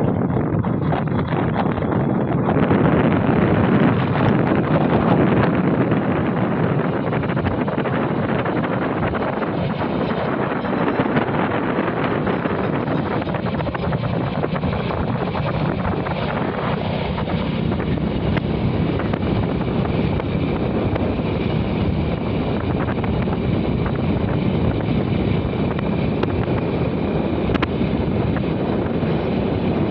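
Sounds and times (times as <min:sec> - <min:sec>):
low rumble: 0:00.0 - 0:29.9
wind buffeting microphone: 0:00.0 - 0:29.9.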